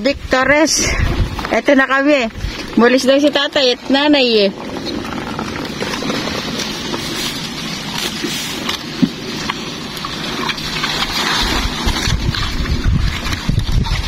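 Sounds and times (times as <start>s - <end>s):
dry vegetation crackling against boat: 1.1s - 14.0s.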